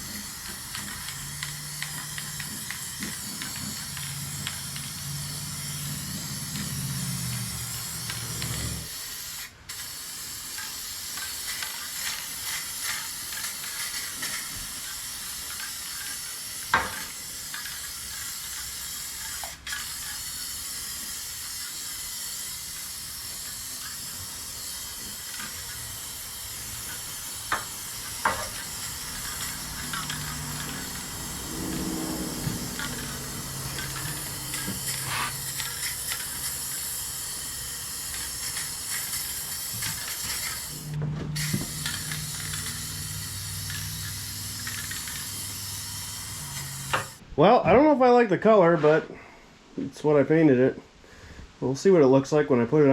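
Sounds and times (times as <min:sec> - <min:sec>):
spray paint hissing: 0:00.0 - 0:47.2.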